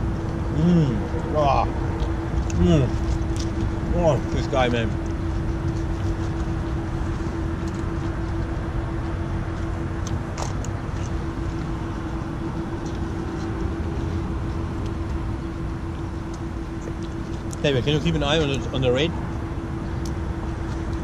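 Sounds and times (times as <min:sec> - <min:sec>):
electrical charging hum: 0:00.0 - 0:21.0.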